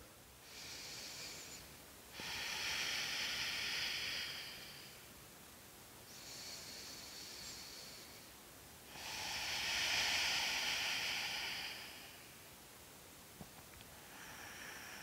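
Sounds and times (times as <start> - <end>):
woman breathing slowly: 0.0 - 5.2, 6.0 - 12.6, 13.8 - 15.0.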